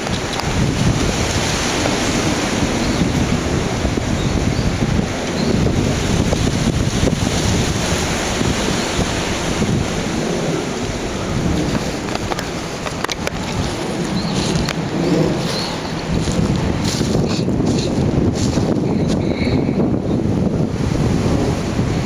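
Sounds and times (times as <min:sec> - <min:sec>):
stream water rushing: 0:00.0 - 0:22.0
wind buffeting microphone: 0:00.0 - 0:22.0.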